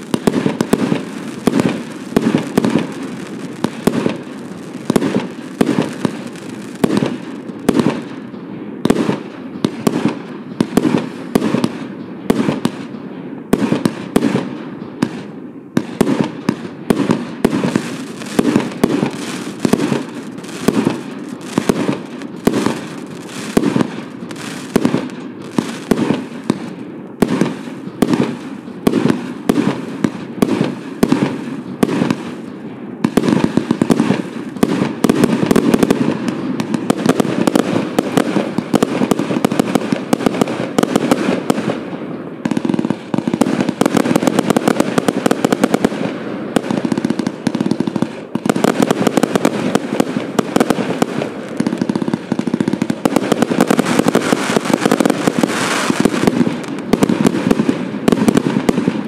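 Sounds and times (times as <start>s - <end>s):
firework bangs: 0.0s - 59.0s
firework pops and crackles: 0.0s - 59.0s.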